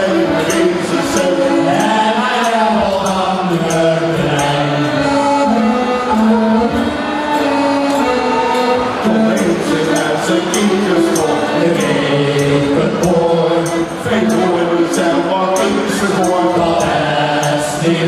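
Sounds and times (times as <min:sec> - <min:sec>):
man singing: 0:00.0 - 0:06.8, 0:08.1 - 0:18.0
musical accompaniment: 0:00.0 - 0:18.0.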